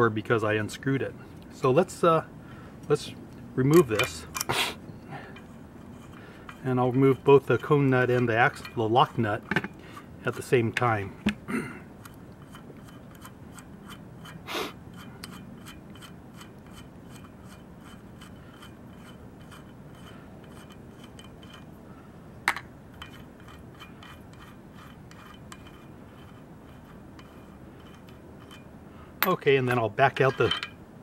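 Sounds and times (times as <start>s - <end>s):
metal nut scraping on threads: 3.6s - 4.5s, 5.2s - 11.4s, 12.0s - 21.8s, 22.9s - 30.8s.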